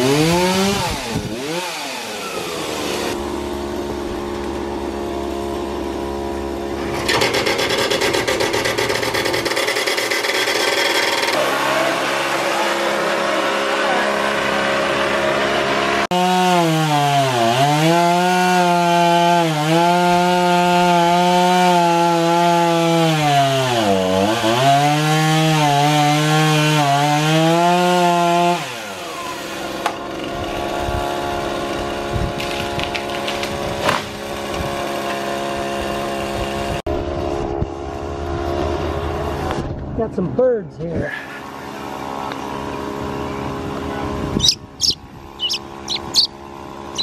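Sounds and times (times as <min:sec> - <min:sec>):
chainsaw cutting wood: 0:00.0 - 0:36.8, 0:44.3 - 0:47.0.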